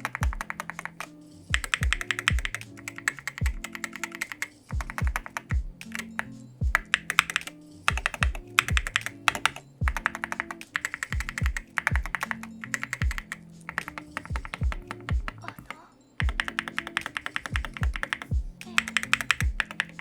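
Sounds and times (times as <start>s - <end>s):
music with deep bass beat: 0.0s - 4.1s, 4.7s - 15.6s, 16.2s - 20.0s
fast keyboard typing clacks: 0.0s - 20.0s.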